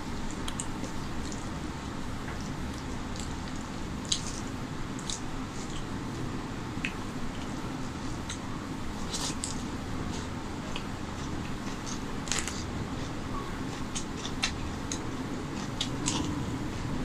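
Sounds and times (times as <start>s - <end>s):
low background hum: 0.0s - 17.0s
wet chewing with mouth clicks: 0.2s - 6.2s, 6.8s - 17.0s.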